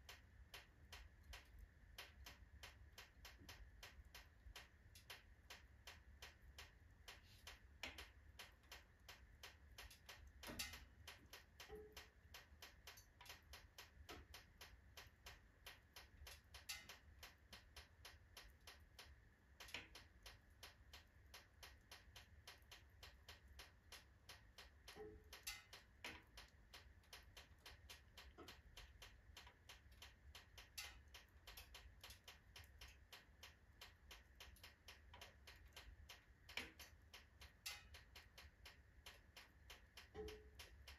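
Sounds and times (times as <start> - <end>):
wood fire crackling in stove: 0.0 - 40.9.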